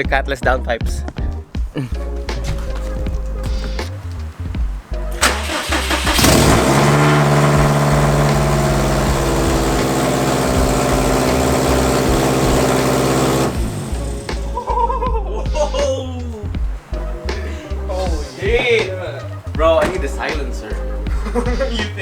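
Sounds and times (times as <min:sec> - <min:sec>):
car engine starting and idling: 0:01.9 - 0:14.9, 0:16.3 - 0:22.0.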